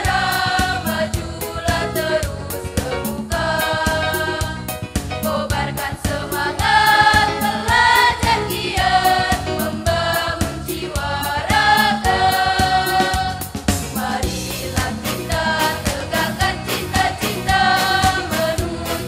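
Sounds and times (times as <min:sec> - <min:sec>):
choir singing in harmony: 0:00.0 - 0:19.0
steady beat: 0:00.0 - 0:19.0.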